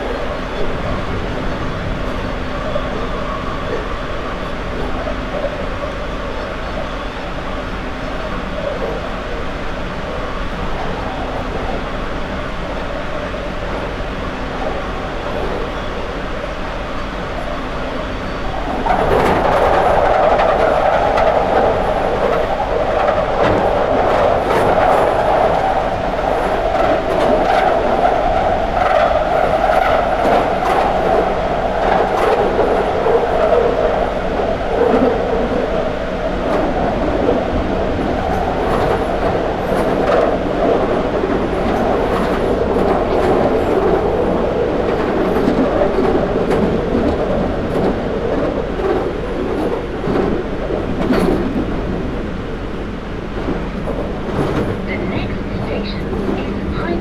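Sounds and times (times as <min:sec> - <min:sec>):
train rumbling in tunnel: 0:00.0 - 0:57.0.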